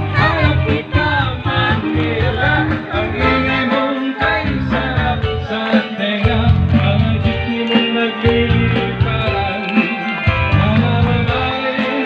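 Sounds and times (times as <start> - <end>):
instrumental music with bass line: 0.0 - 12.0.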